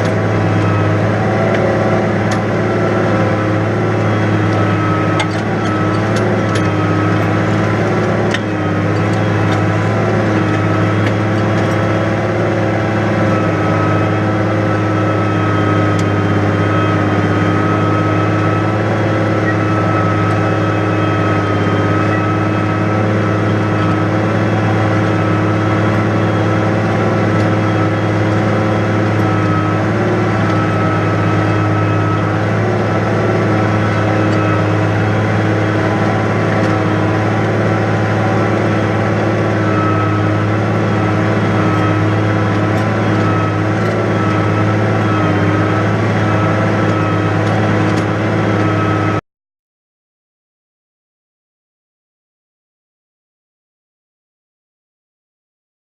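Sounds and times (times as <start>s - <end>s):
tractor diesel engine running: 0.0s - 49.2s.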